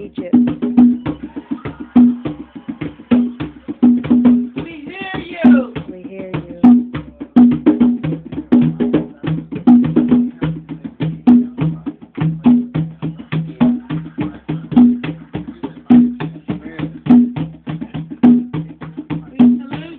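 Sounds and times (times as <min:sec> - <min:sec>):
hand drumming: 0:00.0 - 0:19.9.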